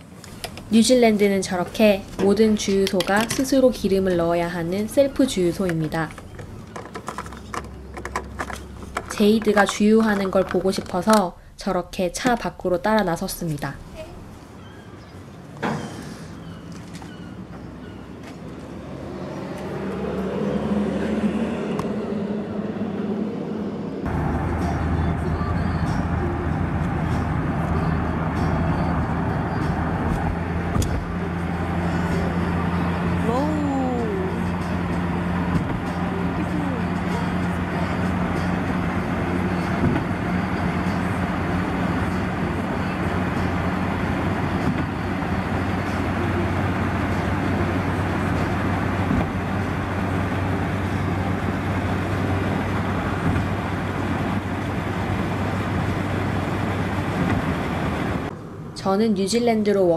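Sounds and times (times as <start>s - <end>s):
low engine hum: 0.0s - 59.2s
tyres rushing on road: 0.0s - 59.9s.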